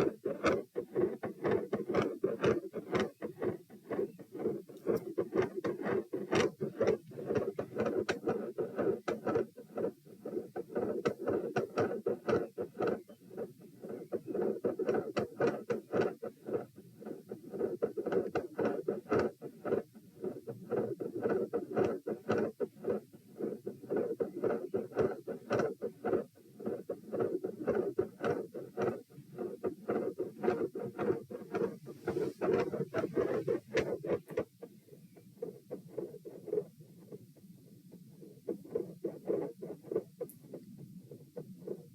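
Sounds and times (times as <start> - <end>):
fast heartbeat through stethoscope: 0.0 - 41.9.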